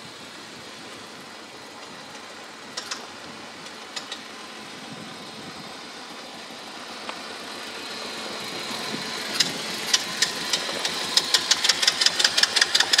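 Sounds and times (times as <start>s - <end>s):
small buggy engine running: 0.0s - 13.0s.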